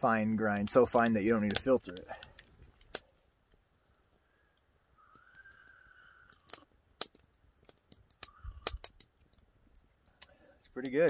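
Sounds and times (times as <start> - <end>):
lip sounds and small clicks: 1.0 - 11.0.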